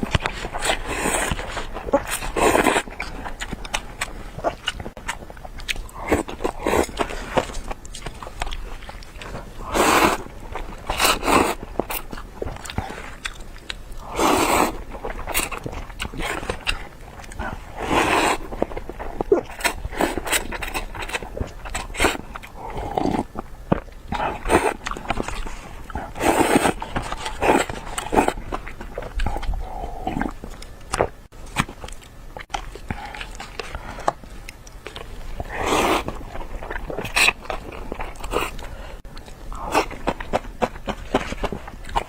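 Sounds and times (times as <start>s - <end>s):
person biting and chewing food: 0.0s - 42.0s.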